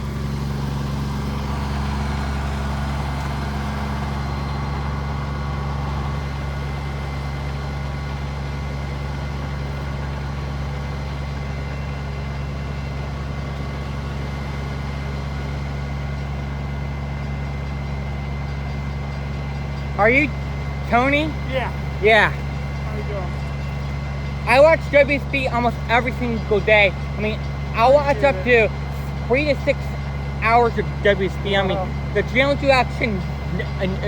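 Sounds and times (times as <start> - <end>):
large engine idling: 0.0 - 34.0.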